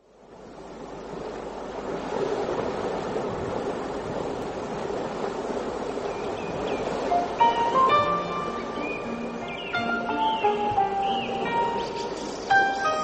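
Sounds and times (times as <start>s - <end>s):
ocean waves breaking: 0.2s - 13.0s.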